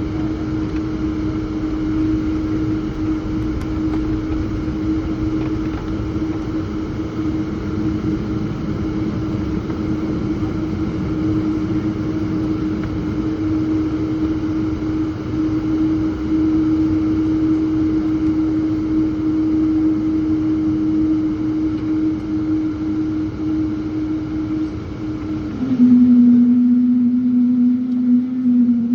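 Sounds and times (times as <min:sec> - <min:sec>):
jet engines and airflow rumble: 0:00.0 - 0:28.9
steady droning tone: 0:00.0 - 0:28.9.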